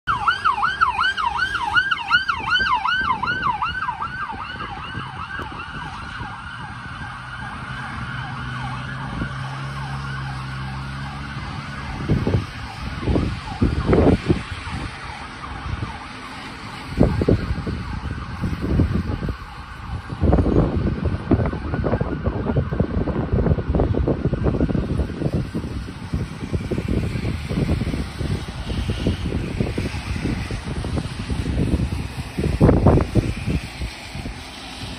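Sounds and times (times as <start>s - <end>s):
traffic engine hum: 0.0s - 34.9s
siren yelping: 0.1s - 34.4s
wind buffeting microphone: 0.1s - 34.9s.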